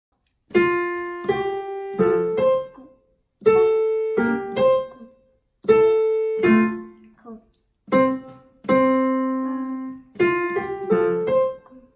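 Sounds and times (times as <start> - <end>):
child playing digital piano melody: 0.5 - 7.1, 7.9 - 11.9.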